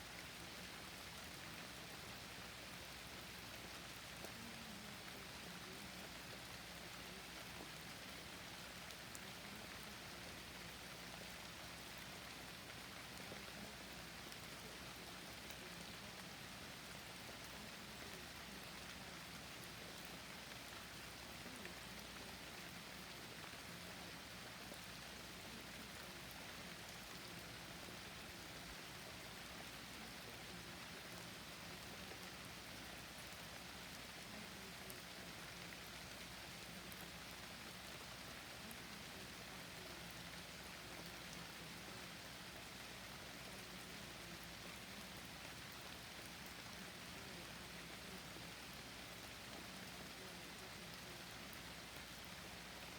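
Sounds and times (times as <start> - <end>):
rain hiss: 0.0 - 52.9.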